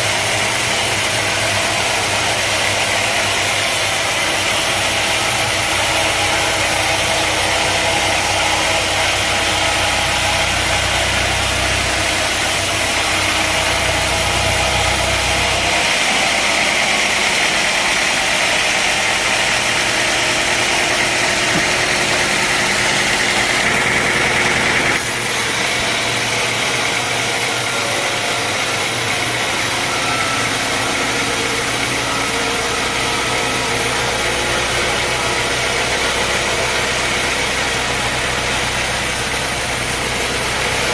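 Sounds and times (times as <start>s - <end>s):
sawmill engine and saw noise: 0.0s - 40.9s.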